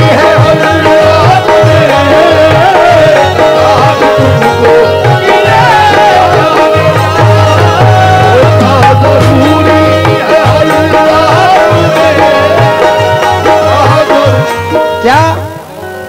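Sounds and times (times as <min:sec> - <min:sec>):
hand drum rhythm: 0:00.0 - 0:15.6
harmonium chords: 0:00.0 - 0:16.0
ornamented sliding melody: 0:00.0 - 0:16.0.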